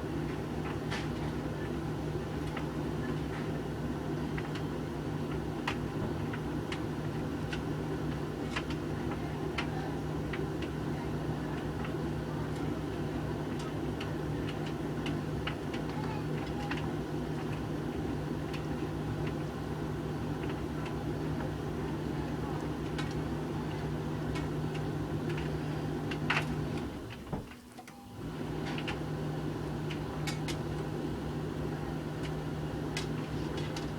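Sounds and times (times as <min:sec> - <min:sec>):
tumble dryer running: 0:00.0 - 0:33.9.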